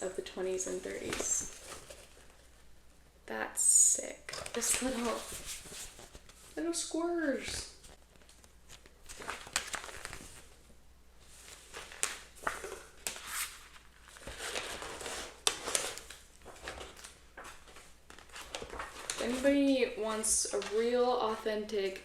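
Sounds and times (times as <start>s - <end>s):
book pages rustling: 0.2s - 2.7s, 4.3s - 6.6s, 7.4s - 21.0s.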